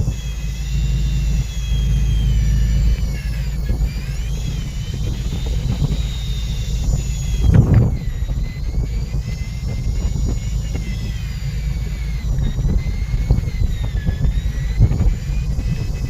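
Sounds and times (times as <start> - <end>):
boat engine rumble: 0.0 - 16.0
faint high whine: 0.0 - 16.0.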